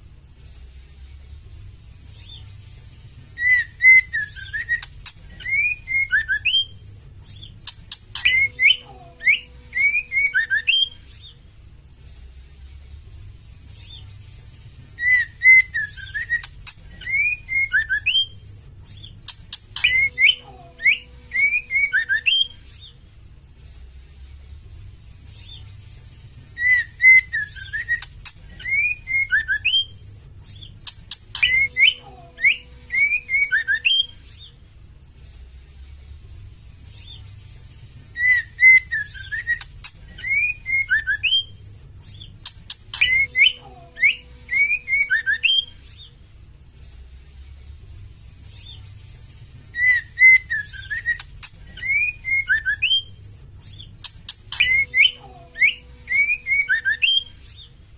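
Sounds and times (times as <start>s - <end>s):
faint low hum: 0.0s - 57.9s
bird whistled notes and chattering: 2.1s - 11.4s, 13.7s - 23.0s, 25.3s - 34.6s, 36.8s - 46.2s, 48.4s - 57.8s.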